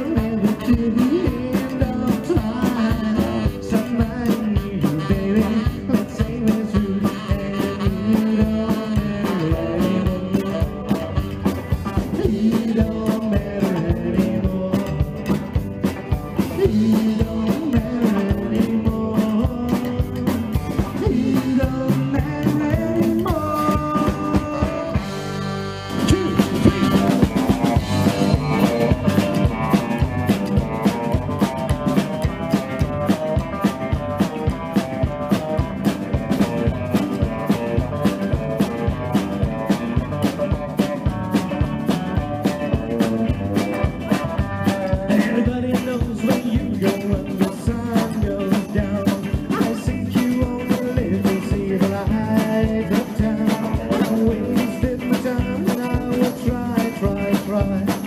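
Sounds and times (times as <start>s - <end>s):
rock and roll band playing: 0.0s - 58.0s.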